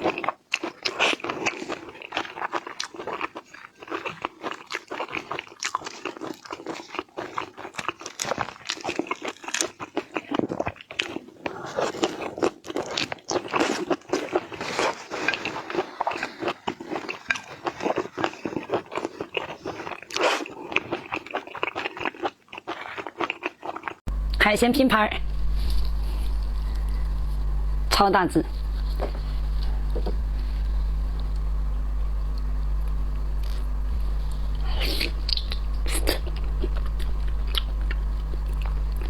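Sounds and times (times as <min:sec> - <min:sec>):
person crunching and chewing food: 0:00.0 - 0:24.4, 0:25.2 - 0:27.6, 0:28.5 - 0:39.0.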